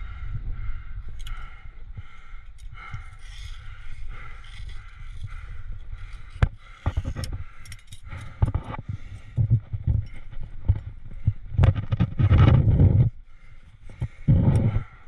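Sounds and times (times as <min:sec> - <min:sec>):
steady low rumble: 0:00.0 - 0:15.0
climbing gear scraping rock: 0:02.5 - 0:15.0.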